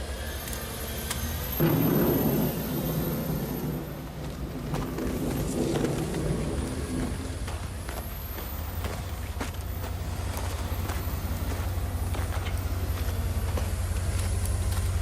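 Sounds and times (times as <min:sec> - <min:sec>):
engine and road rumble: 0:00.0 - 0:15.0.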